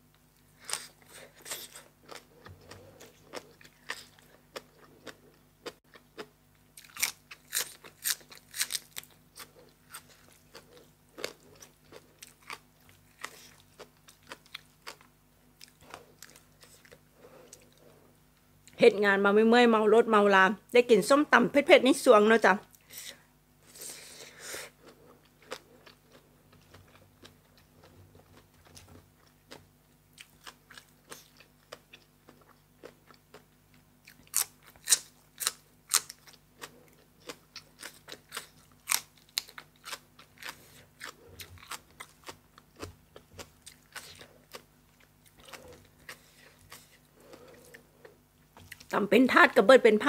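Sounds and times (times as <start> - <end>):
person chewing crunchy food: 0.4 - 18.8, 23.7 - 48.9.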